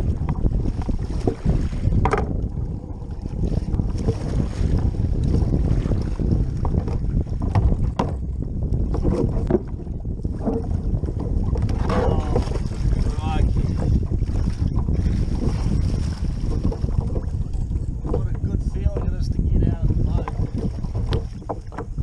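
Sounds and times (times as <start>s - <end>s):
water lapping against hull: 0.0s - 22.0s
wind buffeting microphone: 0.0s - 22.0s.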